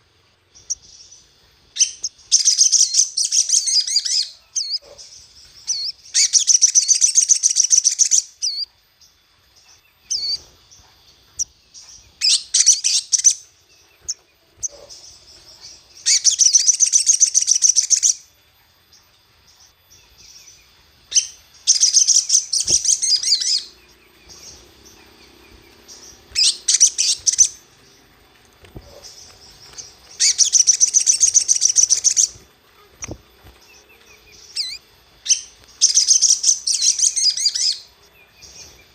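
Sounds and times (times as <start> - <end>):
sunbird twittering trills: 0.0 - 38.9.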